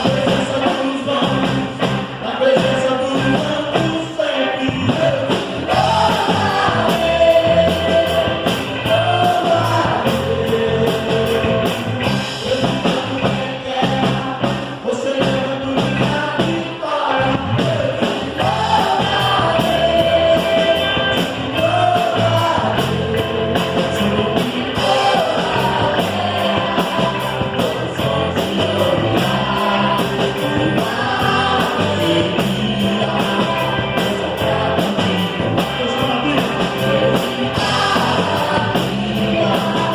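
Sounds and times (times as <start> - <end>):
band playing with singing: 0.0 - 39.9
drum kit beating: 0.0 - 39.9.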